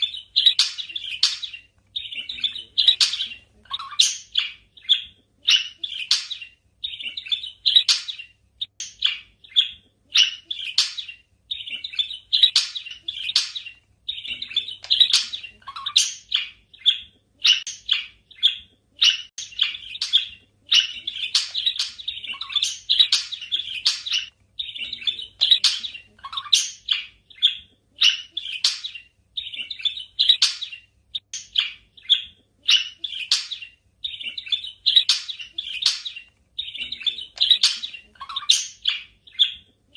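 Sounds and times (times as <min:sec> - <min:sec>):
budgerigars chirping: 0:00.0 - 0:39.7.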